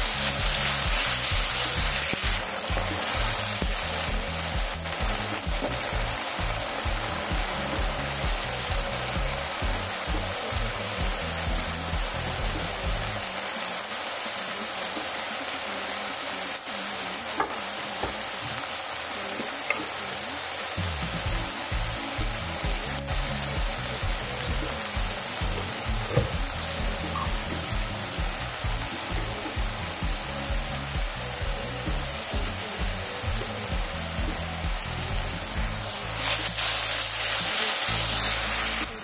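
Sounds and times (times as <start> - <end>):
masala sizzling in hot oil: 0.0 - 39.0.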